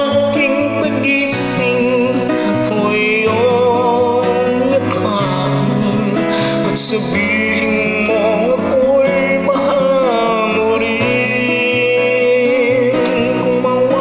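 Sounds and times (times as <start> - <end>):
guitar accompaniment: 0.0 - 14.0.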